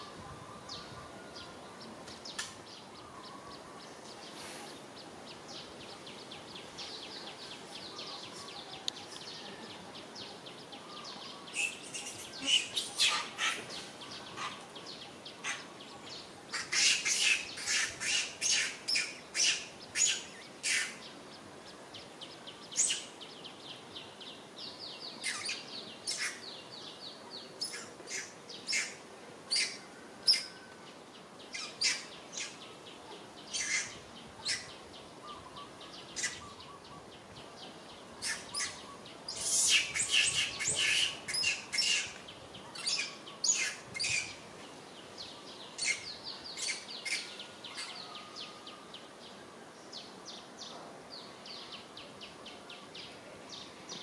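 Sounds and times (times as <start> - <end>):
faint outdoor background: 0.0 - 54.0.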